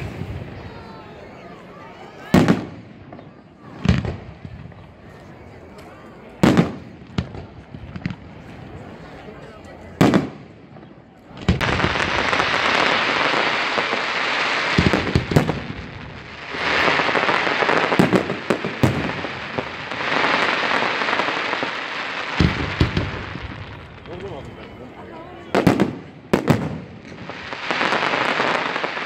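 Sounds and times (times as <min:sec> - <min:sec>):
firework bangs: 0:00.0 - 0:08.9, 0:09.9 - 0:29.0
firework crackling: 0:00.0 - 0:29.0.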